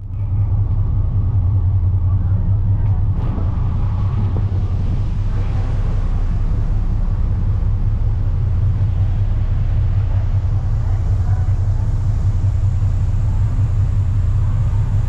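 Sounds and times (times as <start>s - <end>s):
ferry engine rumble: 0.0s - 15.0s
rush of wind and water: 0.4s - 15.0s.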